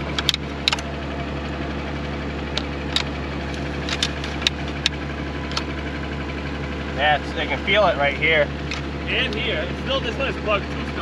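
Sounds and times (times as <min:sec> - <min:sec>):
air blower running: 0:00.0 - 0:11.0
tractor engine idling: 0:00.0 - 0:11.0.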